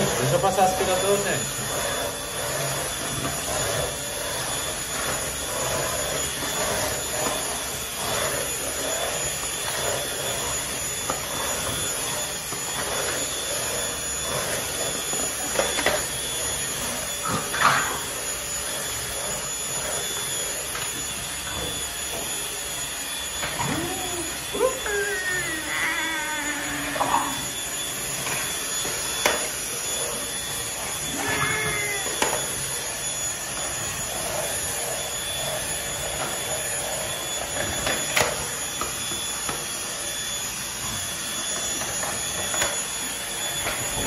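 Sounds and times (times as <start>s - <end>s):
vacuum cleaner whining: 0.0s - 44.0s.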